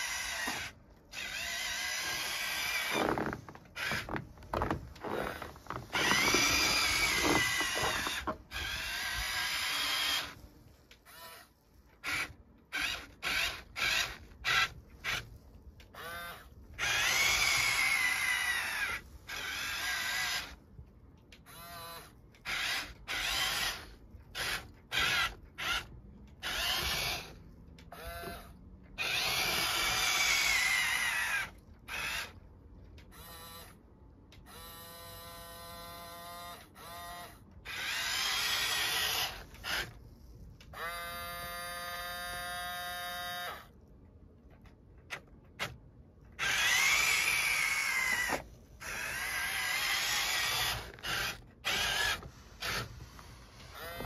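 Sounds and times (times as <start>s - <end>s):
toy electric motors whining: 0.0s - 33.8s, 34.4s - 43.8s, 45.6s - 54.0s.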